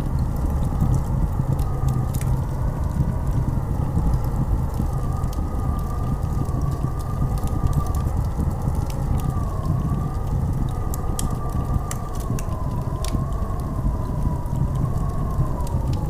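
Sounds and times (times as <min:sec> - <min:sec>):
howling blizzard wind: 0:00.0 - 0:16.0.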